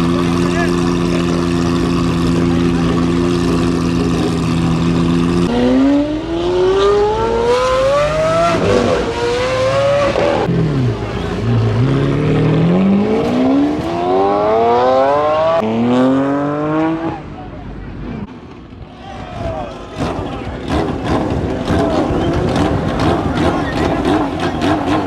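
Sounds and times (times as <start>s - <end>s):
car engine accelerating hard: 0.0s - 18.3s, 19.4s - 25.0s.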